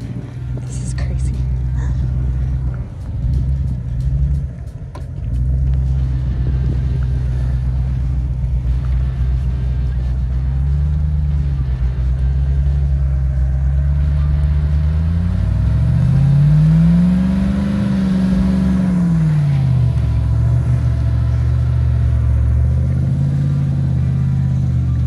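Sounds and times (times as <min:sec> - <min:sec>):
big engine revving: 0:00.0 - 0:25.0.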